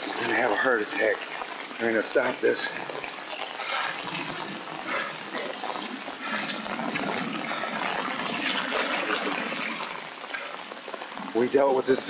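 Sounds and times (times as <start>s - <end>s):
floodwater rushing over gravel: 0.0s - 12.0s.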